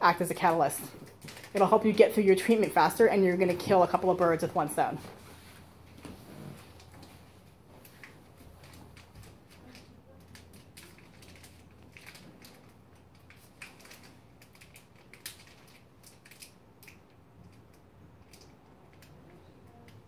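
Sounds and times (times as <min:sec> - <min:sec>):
gloved hands clicking and rustling: 0:00.2 - 0:04.0, 0:06.0 - 0:20.0.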